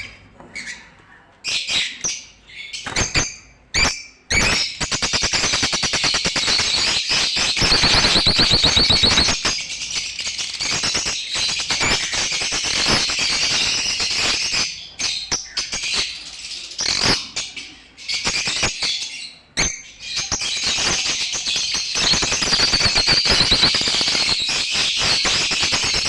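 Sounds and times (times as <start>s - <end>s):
birds chirping and chattering: 0.0s - 26.0s.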